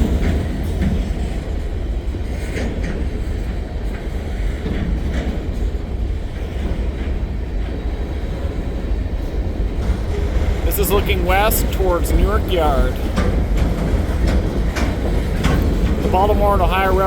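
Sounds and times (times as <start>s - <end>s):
freight train wheels rumbling: 0.1s - 17.0s.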